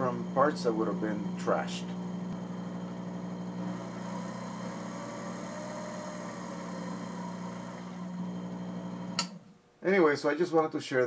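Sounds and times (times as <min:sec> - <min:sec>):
milling machine motor humming: 0:00.0 - 0:09.4.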